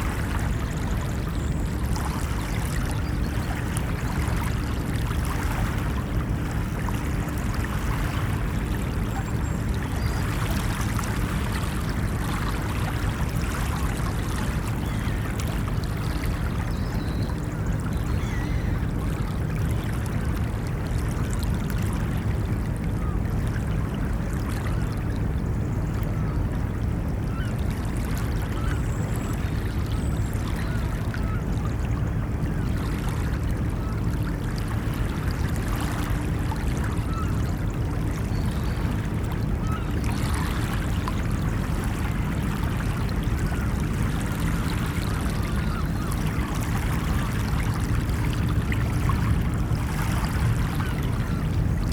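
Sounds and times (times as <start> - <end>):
ocean water washing on beach: 0.0 - 51.9.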